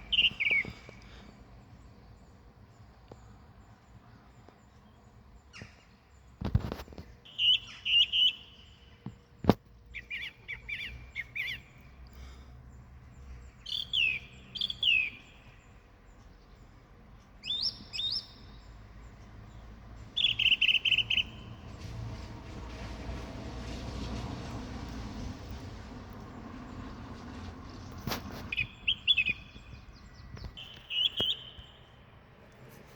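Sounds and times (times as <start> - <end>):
songbirds singing: 0.0 - 32.7.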